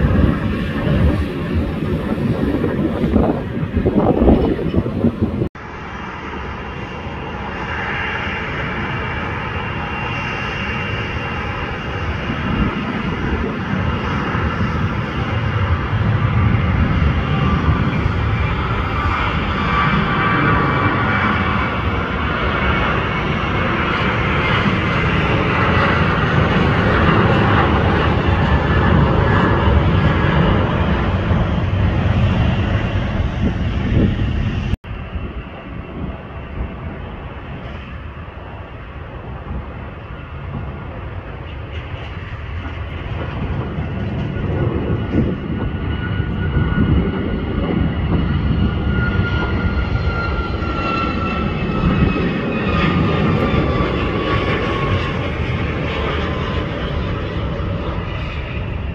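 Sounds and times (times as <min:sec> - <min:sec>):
jet engines roaring with whine: 0:00.0 - 0:58.9.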